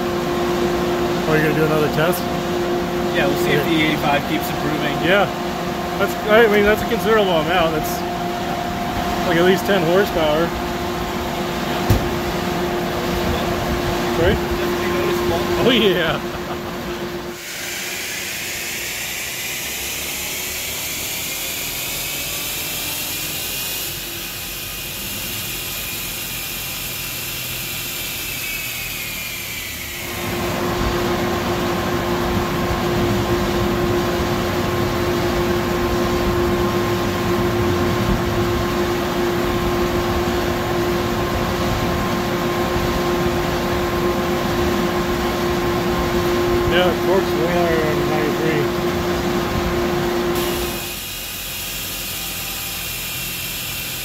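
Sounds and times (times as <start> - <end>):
high machinery whine: 0.0 - 54.0
steady fan hum: 0.0 - 54.0.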